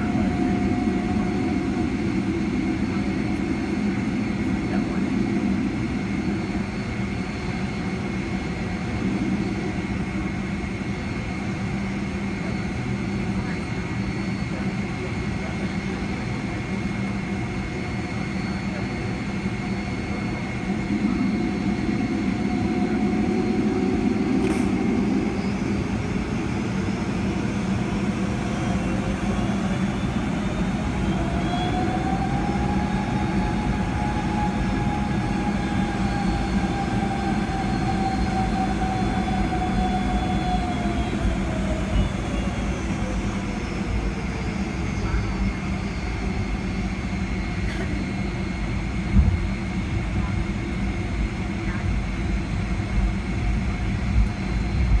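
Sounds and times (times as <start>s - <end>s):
rising whine: 0.0s - 49.9s
steady engine hum: 0.0s - 55.0s.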